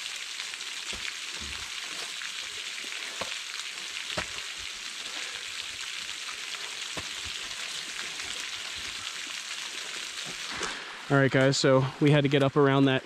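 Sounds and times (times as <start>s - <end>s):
rainwater running over rock: 0.0s - 12.5s.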